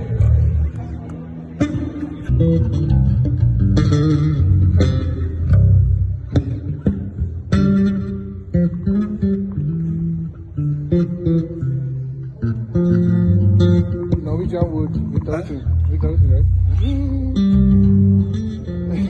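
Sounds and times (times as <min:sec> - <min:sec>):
bass guitar plucked notes: 0:00.0 - 0:19.0.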